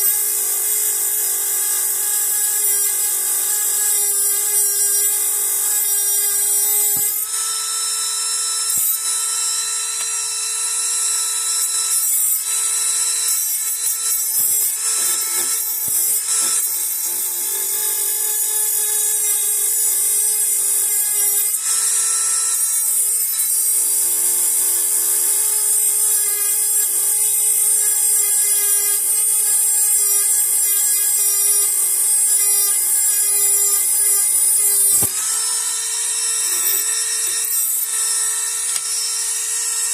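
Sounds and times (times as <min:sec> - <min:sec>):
rotary tool whining: 0:00.0 - 0:39.9.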